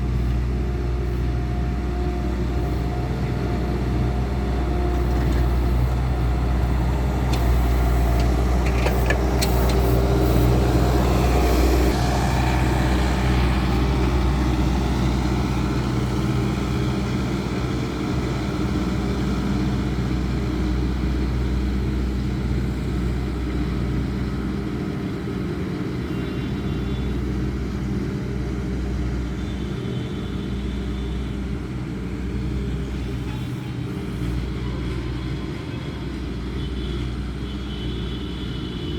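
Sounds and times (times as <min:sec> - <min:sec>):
diesel loader engine running: 0:00.0 - 0:38.8.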